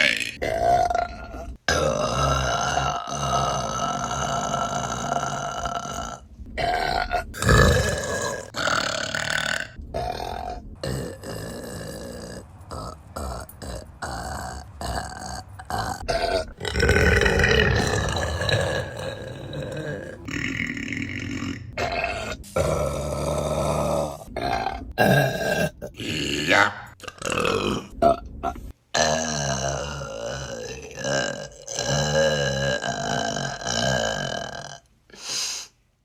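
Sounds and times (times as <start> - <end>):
women belching: 0.0 - 28.2, 29.0 - 34.8.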